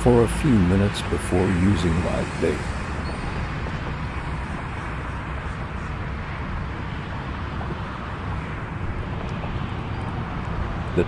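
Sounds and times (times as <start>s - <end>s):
outdoor background rumble and hiss: 0.0s - 11.0s.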